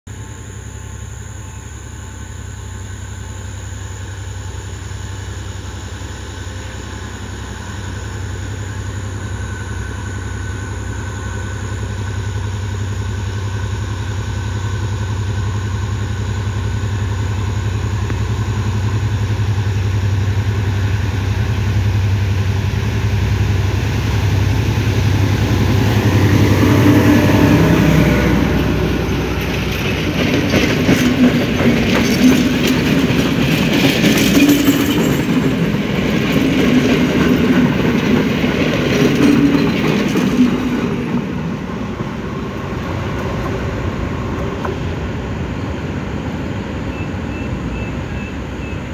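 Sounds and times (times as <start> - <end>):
locomotive engine drone: 0.1 - 48.9.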